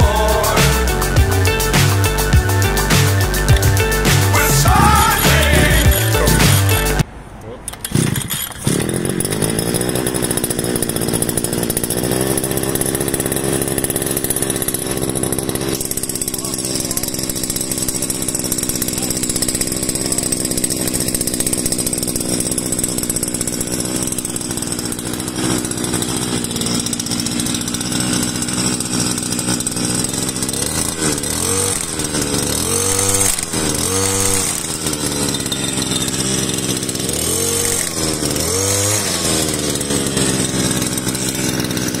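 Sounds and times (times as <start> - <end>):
brush cutter engine revving: 0.0 - 42.0.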